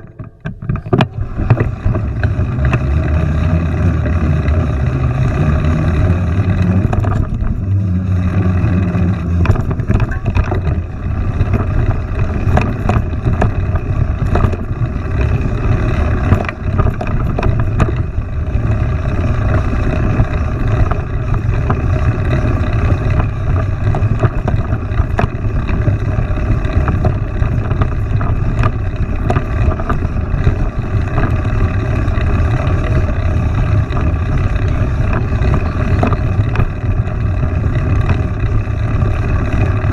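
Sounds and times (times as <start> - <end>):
small rattles and clicks: 0.0 - 39.9
steady low rumble: 0.0 - 39.9.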